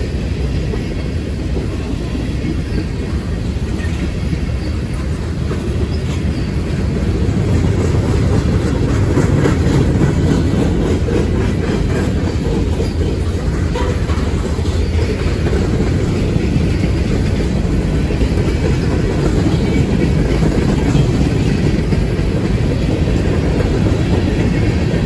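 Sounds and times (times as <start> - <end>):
steel wheels rumbling on rails: 0.0 - 25.0
wheels clicking over rail joints: 0.3 - 25.0.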